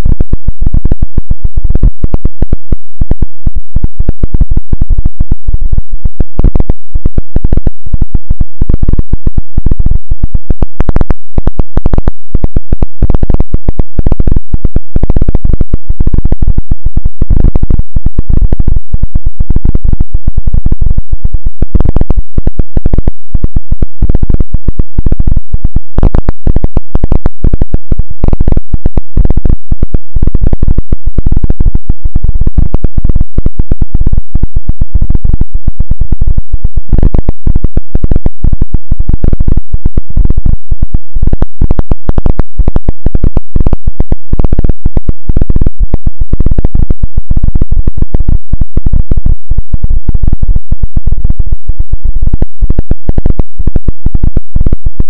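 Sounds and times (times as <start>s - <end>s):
harsh clipped electronic crackle: 0.0s - 55.0s.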